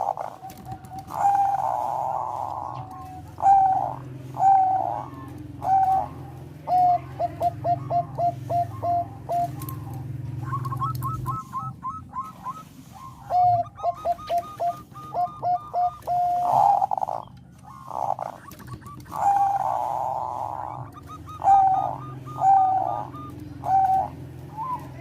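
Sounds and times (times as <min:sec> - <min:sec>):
doves cooing: 0:00.0 - 0:25.0.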